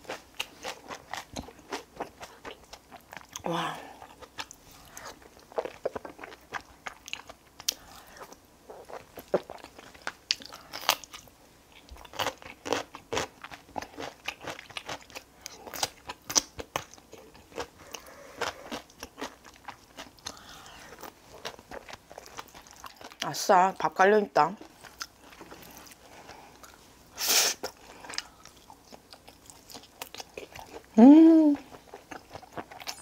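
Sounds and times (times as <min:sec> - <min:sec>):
person chewing and smacking: 0:00.0 - 0:23.3, 0:24.6 - 0:26.8, 0:27.6 - 0:31.0, 0:31.6 - 0:33.0.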